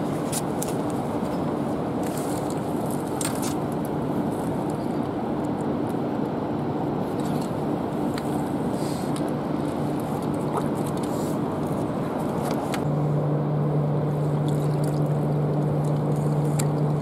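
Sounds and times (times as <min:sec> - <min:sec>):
low engine hum: 0:00.0 - 0:17.0
rumbling background: 0:00.0 - 0:17.0.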